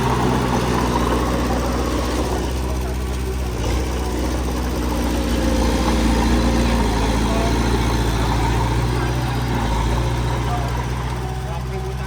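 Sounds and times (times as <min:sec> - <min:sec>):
diesel machinery engine running: 0:00.0 - 0:12.0.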